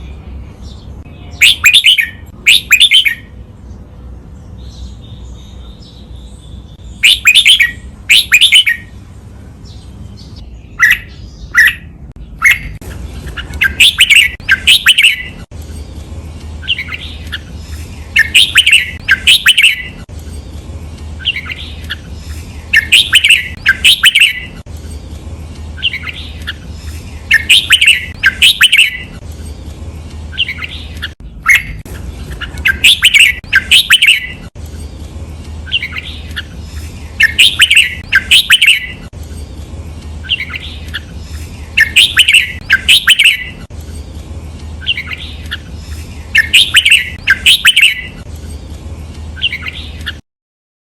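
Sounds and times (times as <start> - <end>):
bird chirping song: 0.0 - 50.2.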